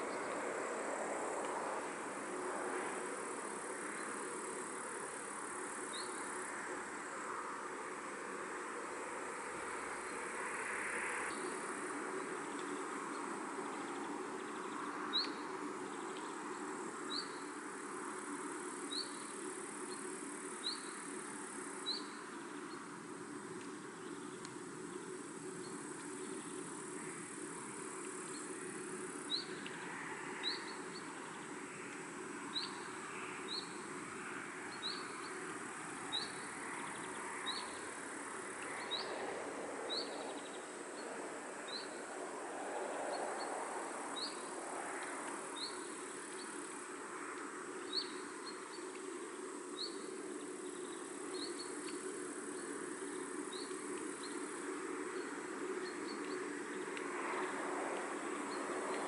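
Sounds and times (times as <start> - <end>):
faint high insect whine: 0.0 - 59.0.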